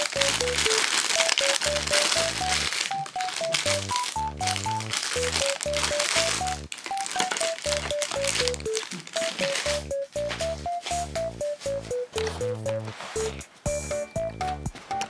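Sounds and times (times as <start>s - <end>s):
rustling crinkly haze: 0.0s - 13.7s
plinking melody over bass line: 0.0s - 15.0s.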